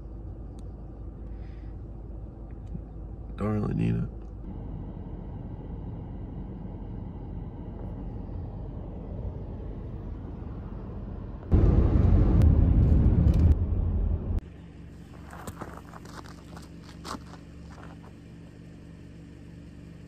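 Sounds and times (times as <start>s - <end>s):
car road rumble: 0.0s - 20.0s
loud driving noise: 1.8s - 20.0s.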